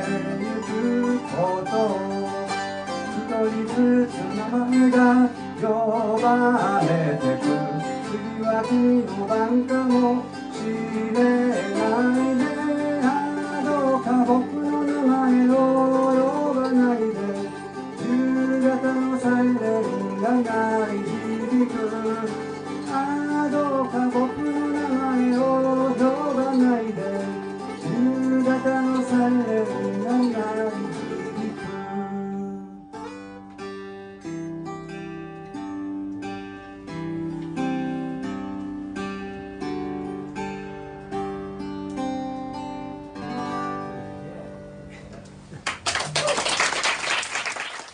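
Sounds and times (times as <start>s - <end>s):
acoustic guitar strumming: 0.0s - 45.8s
picked guitar notes: 0.0s - 46.4s.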